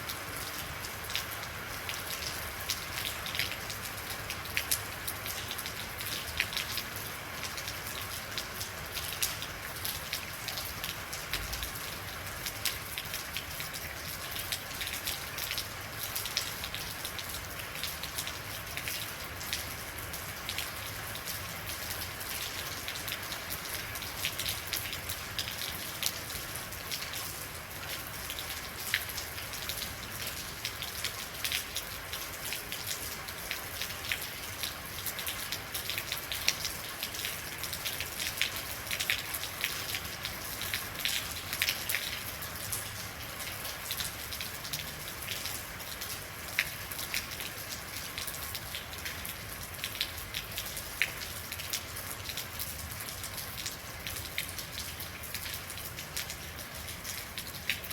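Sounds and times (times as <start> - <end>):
rain falling: 0.0 - 57.9
raindrops ticking on a surface: 0.0 - 57.9.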